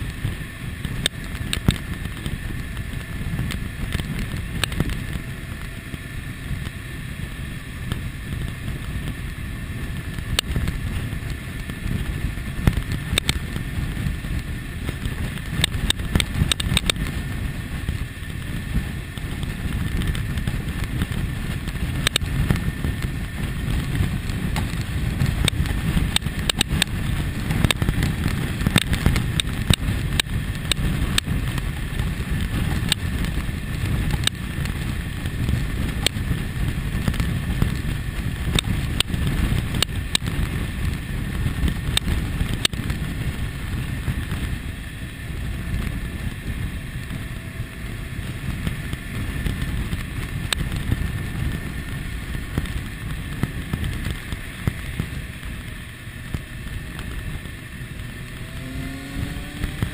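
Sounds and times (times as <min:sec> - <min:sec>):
motorcycle engine at road speed: 0:00.0 - 0:59.9
sharp crackles: 0:00.0 - 0:59.9
wind rush on microphone: 0:00.0 - 0:59.9.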